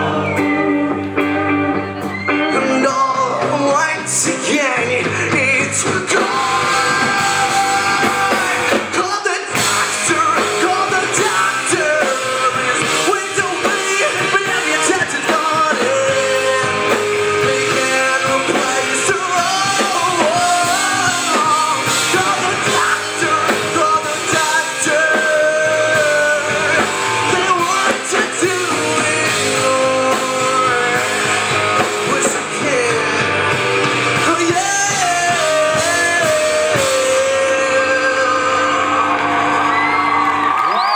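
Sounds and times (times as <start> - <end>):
bass: 0.0 - 40.9
drums: 0.0 - 40.9
electric guitars: 0.0 - 40.9
person singing lead vocal: 0.0 - 40.9.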